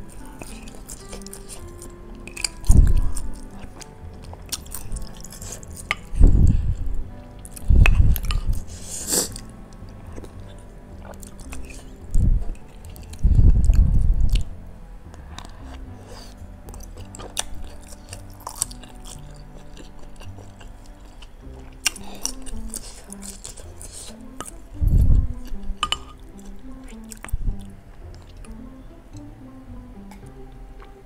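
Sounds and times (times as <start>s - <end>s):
wet chewing sounds: 0.0s - 29.3s, 30.0s - 31.0s.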